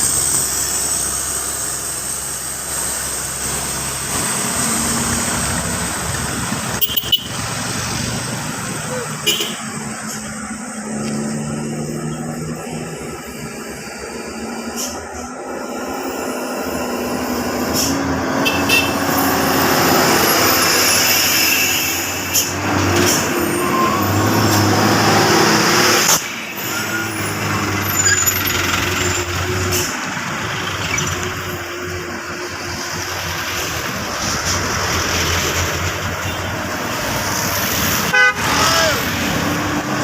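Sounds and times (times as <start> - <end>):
diesel truck engine: 0.0 - 40.0.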